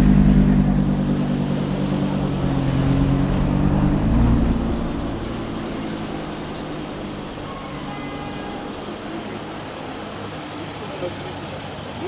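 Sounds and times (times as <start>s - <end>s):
car engine driving off: 0.0s - 12.0s
street traffic hum: 0.0s - 12.0s.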